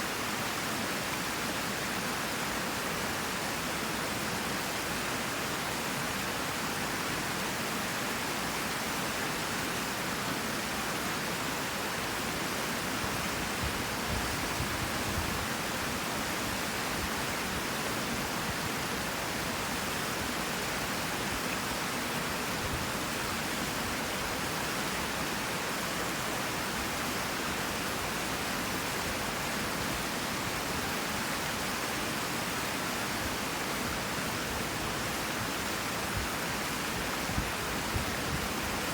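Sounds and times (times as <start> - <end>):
creek water rushing over rocks: 0.0 - 38.9.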